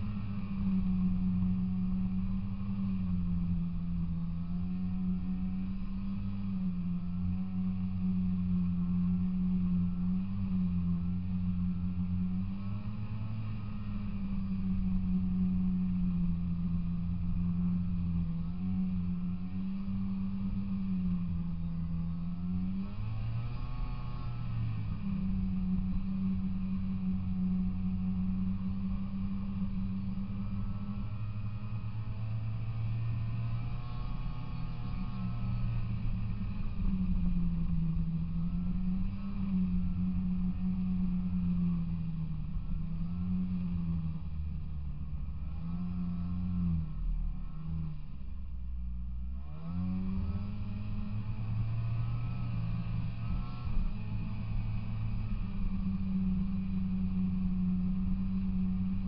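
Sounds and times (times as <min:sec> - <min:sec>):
snowmobile engine running: 0:00.0 - 0:48.3, 0:49.4 - 0:59.0.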